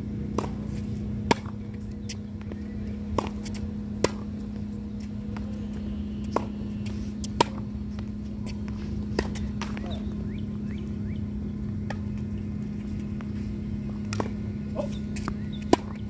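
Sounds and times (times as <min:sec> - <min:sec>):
steady low hum: 0:00.0 - 0:16.0
tennis balls hit and bouncing: 0:00.1 - 0:16.0.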